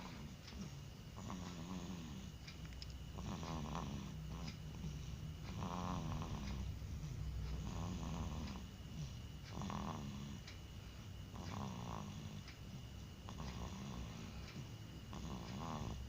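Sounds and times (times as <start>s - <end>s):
rough wavering snore: 0.0s - 2.4s, 3.2s - 10.5s, 11.3s - 12.5s, 13.3s - 16.0s.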